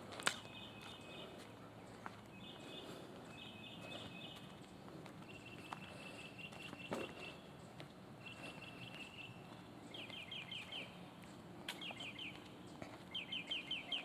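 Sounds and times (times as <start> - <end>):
songbird chirps: 0.3 - 14.0.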